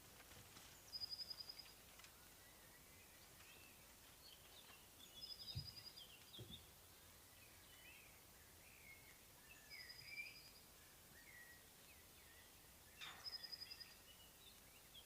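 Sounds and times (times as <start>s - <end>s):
birds chirping: 0.8s - 15.0s.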